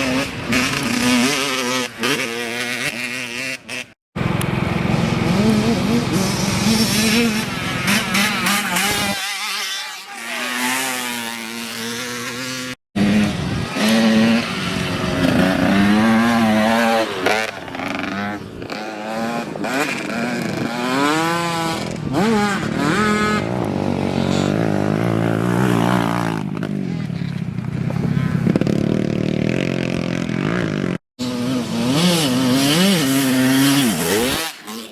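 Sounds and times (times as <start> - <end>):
dirt bike engines revving: 0.0 - 34.9.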